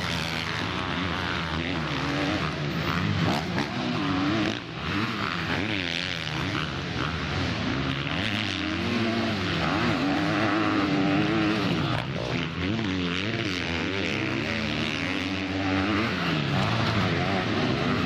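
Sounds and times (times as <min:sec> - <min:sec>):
motorbike engines revving: 0:00.0 - 0:18.0.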